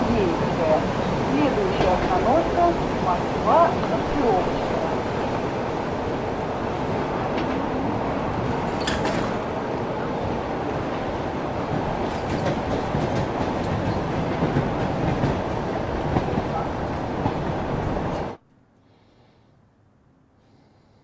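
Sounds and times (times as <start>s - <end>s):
electric train rumble: 0.0s - 18.4s.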